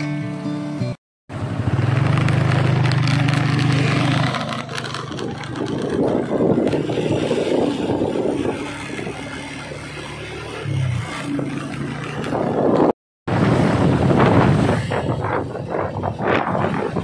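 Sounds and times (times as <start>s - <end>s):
vehicle engine hum: 0.0s - 17.0s
wind and road noise: 1.3s - 17.0s.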